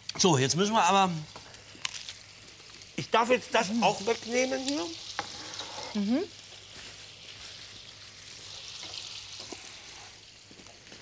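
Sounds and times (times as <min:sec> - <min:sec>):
potatoes sizzling in a pan: 0:00.0 - 0:11.0.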